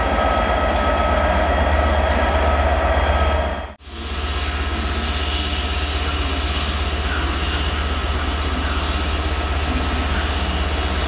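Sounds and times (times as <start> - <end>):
diesel locomotive engine throbbing: 0.0 - 11.0.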